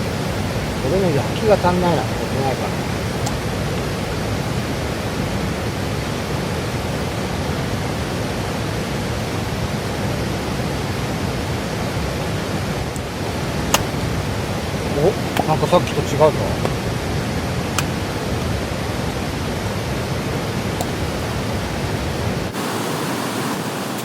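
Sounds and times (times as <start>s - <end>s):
steady rushing noise: 0.0s - 24.0s.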